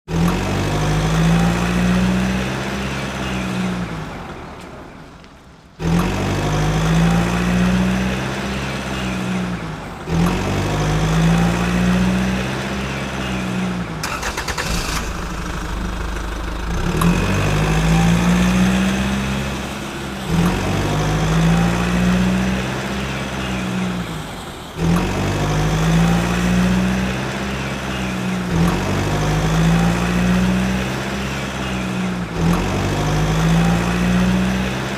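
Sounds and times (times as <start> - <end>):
tractor engine revving: 0.1 - 5.1, 5.7 - 34.9.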